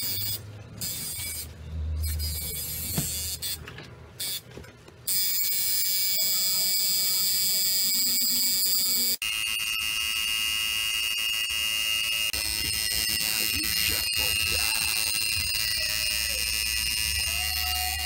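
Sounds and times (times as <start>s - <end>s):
tattoo machine buzzing: 0.0s - 3.6s, 4.2s - 4.4s, 5.1s - 18.0s.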